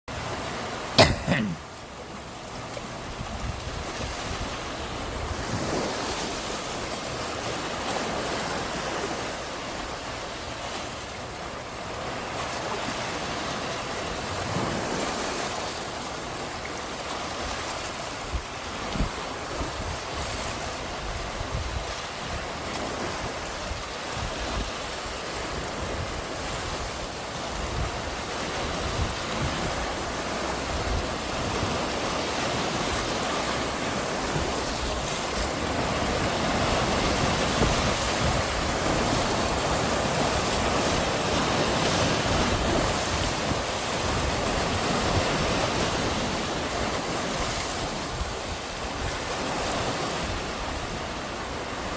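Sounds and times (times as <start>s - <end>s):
sea waves washing on shore: 0.1s - 51.9s.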